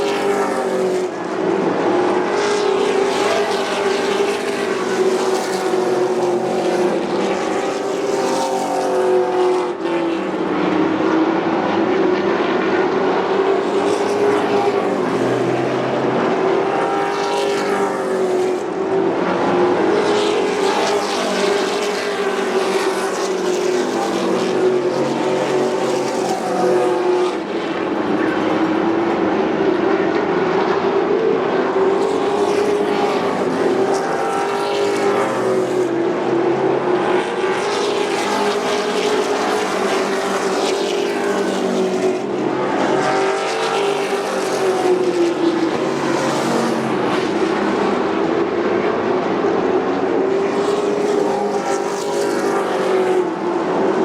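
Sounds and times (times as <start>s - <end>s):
race truck engines: 0.0s - 54.0s.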